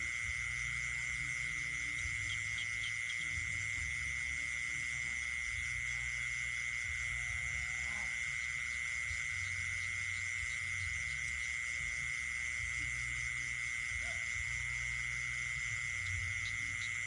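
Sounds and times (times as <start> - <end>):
frogs croaking: 0.0 - 17.0
high-pitched insect trill: 0.0 - 17.0
low uneven hum: 0.0 - 17.0.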